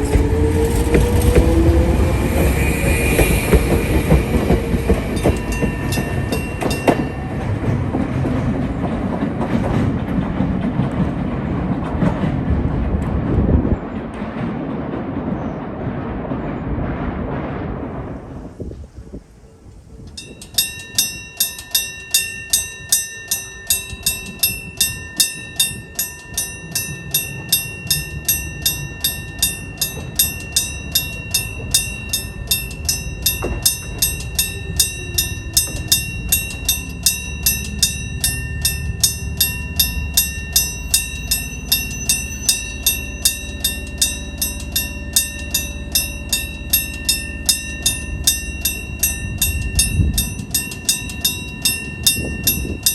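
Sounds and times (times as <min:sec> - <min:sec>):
crossing bell clanging: 0:00.0 - 0:12.7, 0:20.1 - 0:52.9
train rumble: 0:00.0 - 0:52.9.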